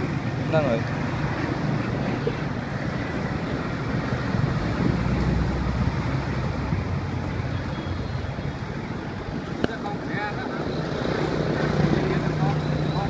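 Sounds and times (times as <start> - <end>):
low rumbling street noise: 0.0 - 13.0.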